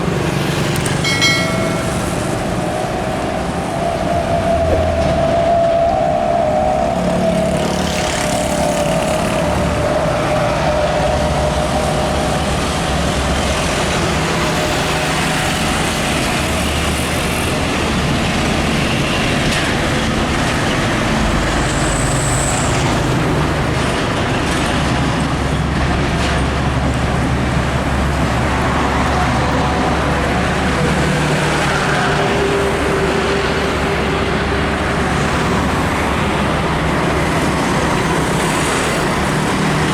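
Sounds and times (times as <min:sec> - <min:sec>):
trucks driving past: 0:00.0 - 0:39.9.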